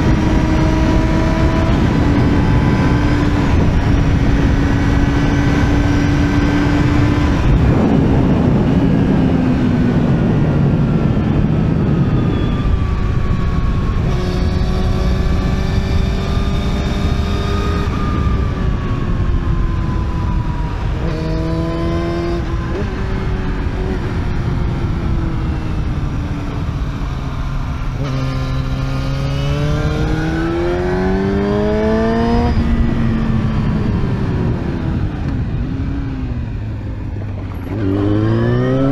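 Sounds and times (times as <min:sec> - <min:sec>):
motorcycle engine accelerating: 0:00.0 - 0:38.9
wind rushing: 0:00.0 - 0:38.9.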